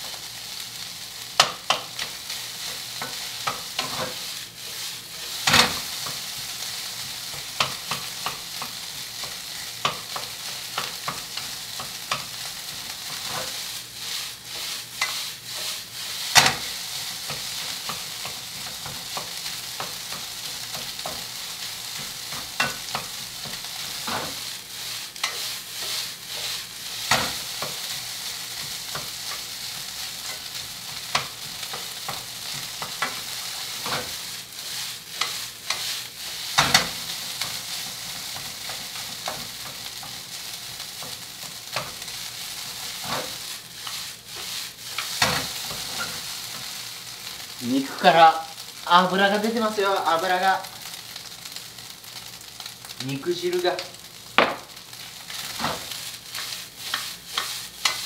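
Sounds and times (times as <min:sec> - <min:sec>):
meat sizzling in pan: 0:00.0 - 0:58.0.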